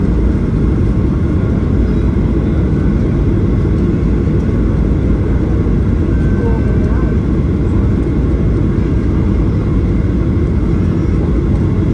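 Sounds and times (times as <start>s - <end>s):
aircraft engines: 0.0s - 11.9s.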